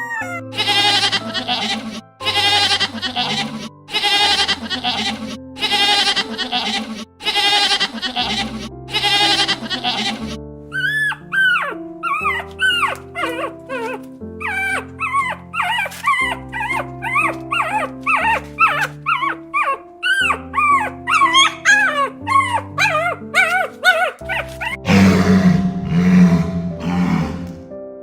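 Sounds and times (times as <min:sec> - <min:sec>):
background music with held notes: 0:00.0 - 0:28.0.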